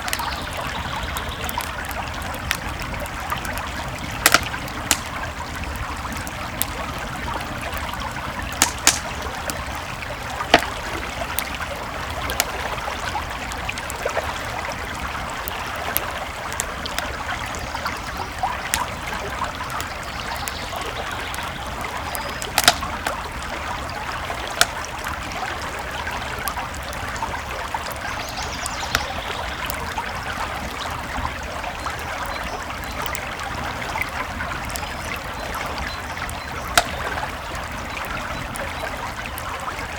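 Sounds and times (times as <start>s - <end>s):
campfire crackling and popping: 0.0s - 39.9s
creek flowing: 0.0s - 39.9s.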